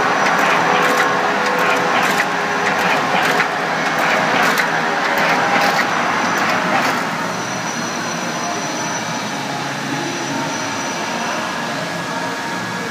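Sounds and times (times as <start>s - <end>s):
industrial machinery running: 0.0s - 12.9s.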